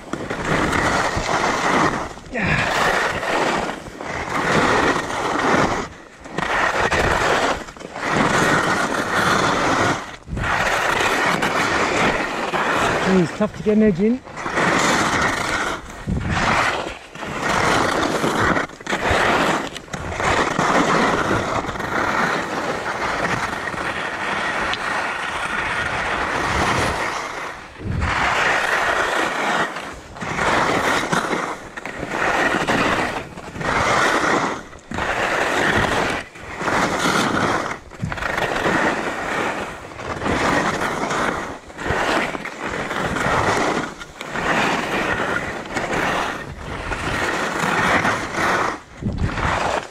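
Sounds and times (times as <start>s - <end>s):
skis scraping on icy snow: 0.0s - 49.9s.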